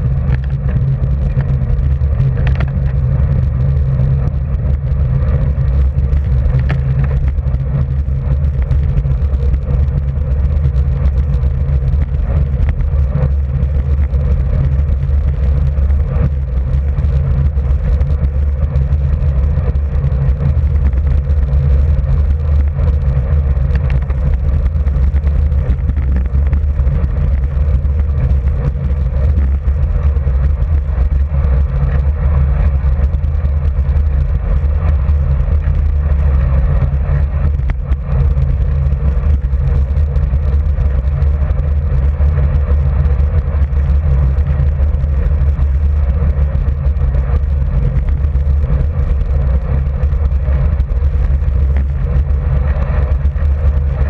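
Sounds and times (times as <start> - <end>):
tyres rolling on asphalt: 0.0 - 54.0
wind buffeting microphone: 0.0 - 54.0.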